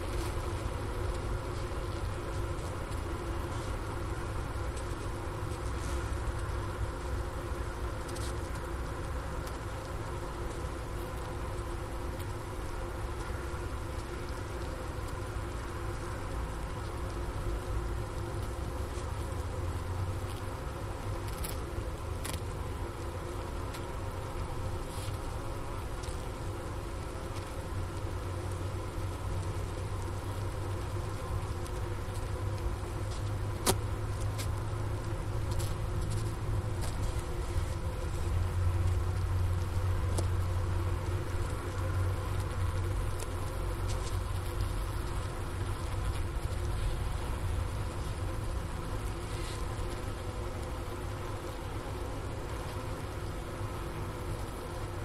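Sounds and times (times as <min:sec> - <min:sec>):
faint ticks: 0:00.0 - 0:55.0
honeybees humming in hive: 0:00.0 - 0:55.0.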